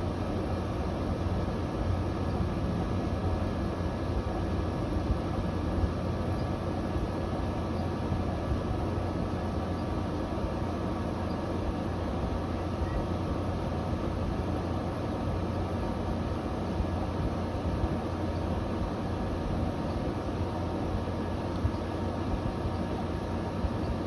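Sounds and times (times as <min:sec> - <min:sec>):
air conditioner running: 0:00.0 - 0:24.0.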